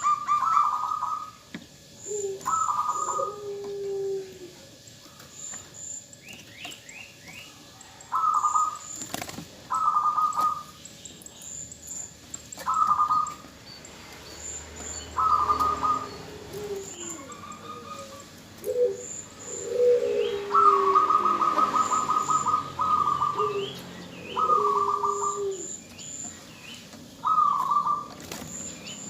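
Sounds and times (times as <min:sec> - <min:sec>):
dove pulsed cooing: 0:00.0 - 0:29.0
small birds chirping: 0:00.0 - 0:29.0.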